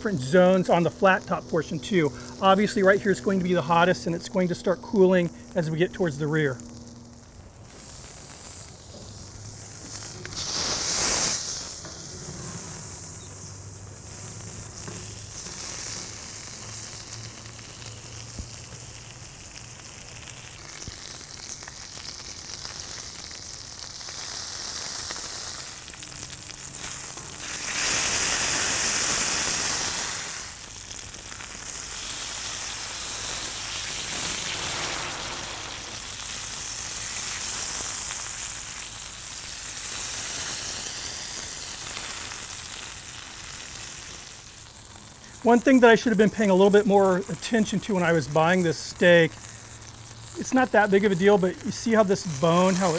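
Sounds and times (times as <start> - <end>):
steak sizzling on a grill: 0.0 - 52.9.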